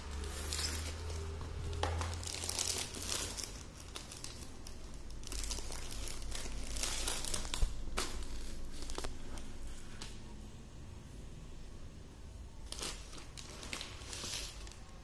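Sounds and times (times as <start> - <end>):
plastic cover crinkling: 0.0 - 10.2, 12.6 - 15.0.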